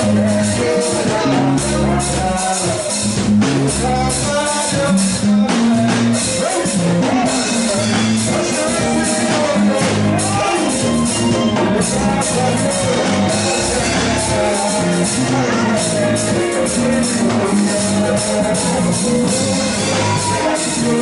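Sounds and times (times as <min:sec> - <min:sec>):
drum kit: 0:00.0 - 0:21.0
guitar: 0:00.0 - 0:21.0
man singing lead: 0:00.0 - 0:21.0.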